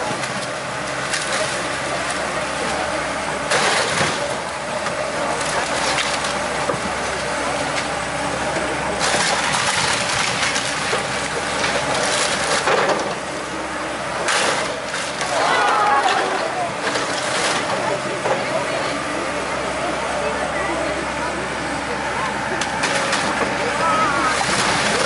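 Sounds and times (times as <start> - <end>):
excavator engine running: 0.0 - 25.0.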